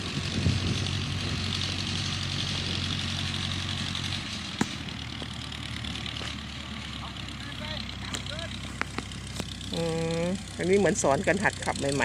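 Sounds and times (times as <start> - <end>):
tractor and baler running: 0.0 - 12.0.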